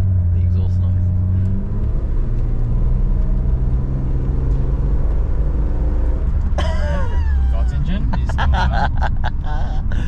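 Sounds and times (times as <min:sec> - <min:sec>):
car exhaust and engine drone: 0:00.0 - 0:10.0.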